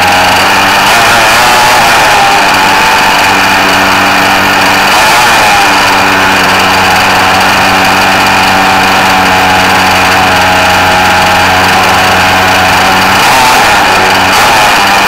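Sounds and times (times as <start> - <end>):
toy car motor running: 0.0 - 15.0.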